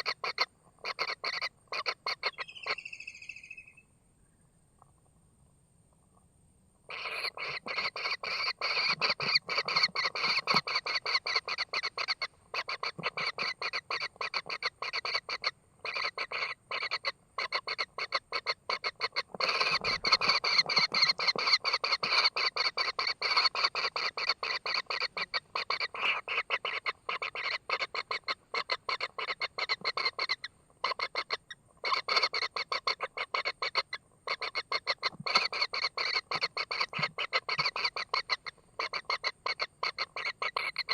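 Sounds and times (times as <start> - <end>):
chicks harsh begging calls: 0.0 - 3.8, 6.9 - 40.9.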